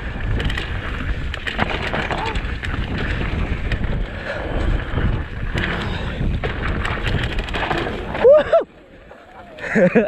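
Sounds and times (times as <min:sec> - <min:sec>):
wind noise on microphone: 0:00.0 - 0:08.7
bike rattling over rocks: 0:00.0 - 0:10.0
tyres rumbling on dirt: 0:00.0 - 0:10.0.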